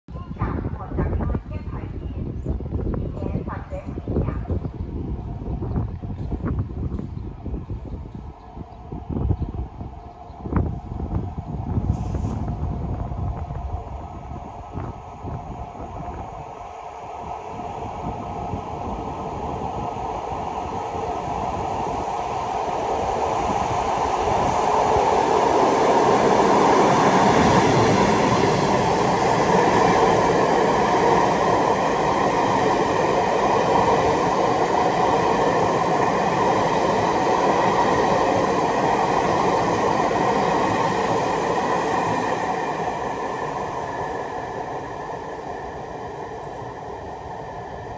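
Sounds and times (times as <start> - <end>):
train wheels rolling on rail: 2.5 - 47.9.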